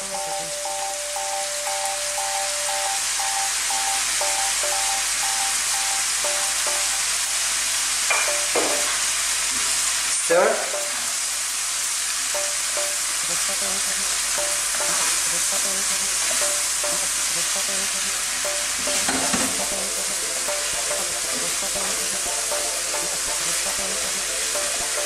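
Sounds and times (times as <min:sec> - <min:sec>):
food sizzling in a hot pan: 0:00.0 - 0:25.0.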